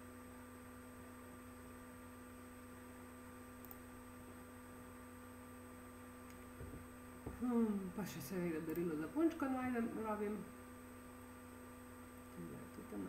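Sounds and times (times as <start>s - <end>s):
faint electrical hum with hiss: 0.0s - 13.0s.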